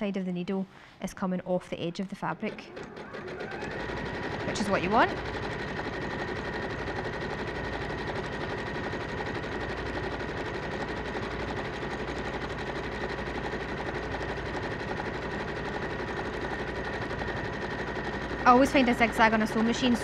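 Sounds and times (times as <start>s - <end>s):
sewing machine running: 2.5s - 20.0s.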